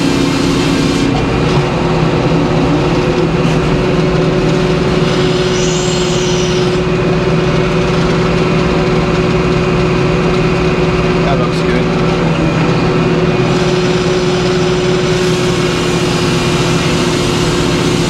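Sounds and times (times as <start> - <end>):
sawmill mechanical drone: 0.0 - 18.0.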